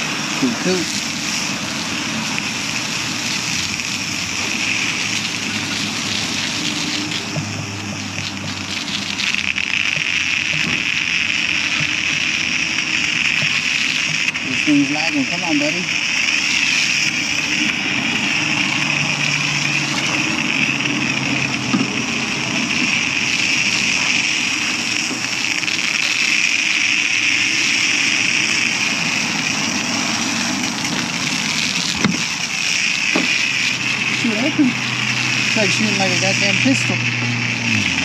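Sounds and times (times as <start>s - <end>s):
foam wand spraying hiss: 0.0s - 38.0s
low machine hum: 0.0s - 38.0s.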